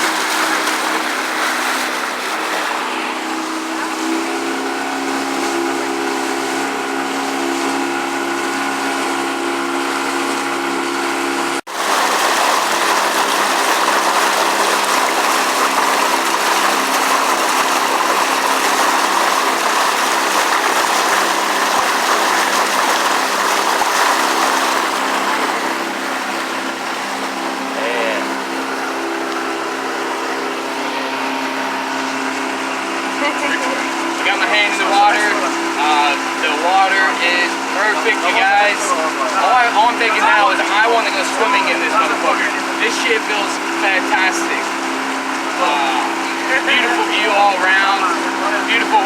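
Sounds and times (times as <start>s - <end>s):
boat motor running: 0.0s - 49.0s.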